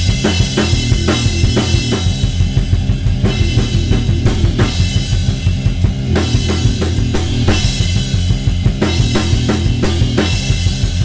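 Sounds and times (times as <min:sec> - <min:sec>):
drum kit fast groove: 0:00.0 - 0:11.0
cymbal crashes: 0:00.2 - 0:10.7.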